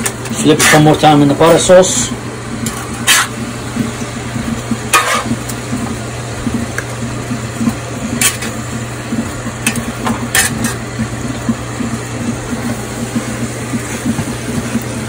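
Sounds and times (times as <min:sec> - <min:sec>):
steady low hum: 0:00.0 - 0:15.0
steaks sizzling in a skillet: 0:02.5 - 0:15.0.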